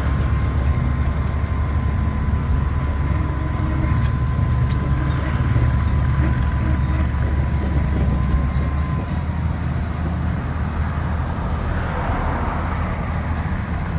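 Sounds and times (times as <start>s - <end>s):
diesel engine rumbling: 0.0s - 13.9s.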